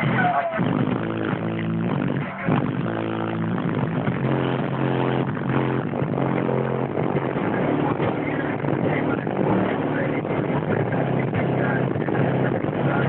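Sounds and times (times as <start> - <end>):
loud car stereo music with heavy bass: 0.0 - 13.0.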